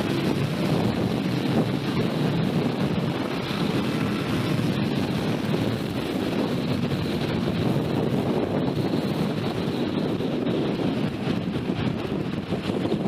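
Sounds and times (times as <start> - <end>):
motorcycle running noise: 0.0 - 13.0
wind rushing over microphone: 0.0 - 13.0.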